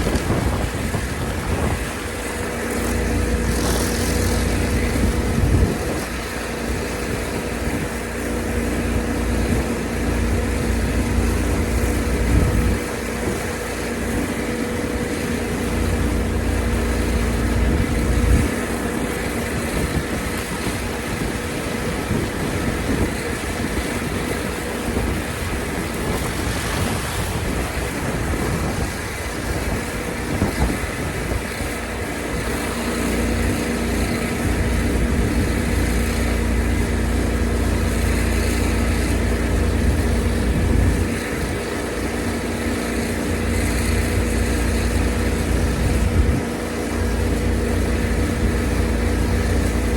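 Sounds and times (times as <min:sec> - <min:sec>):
pressure washer engine running: 0:00.0 - 0:49.9.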